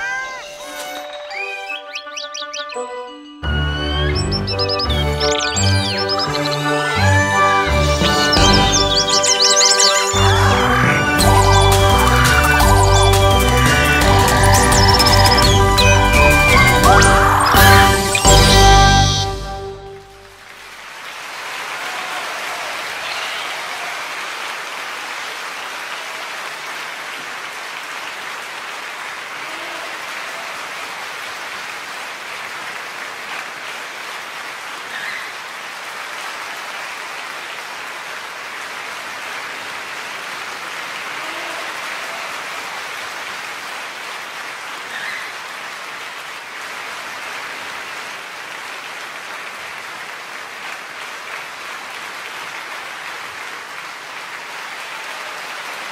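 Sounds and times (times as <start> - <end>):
audience applause: 3.5 - 55.9.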